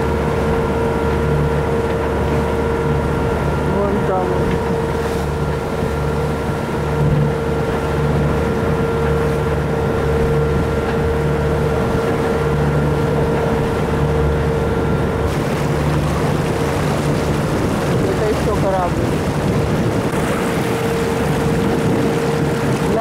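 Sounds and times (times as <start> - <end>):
boat diesel engine drone: 0.0 - 23.0
water noise: 0.0 - 23.0
wind: 0.0 - 23.0.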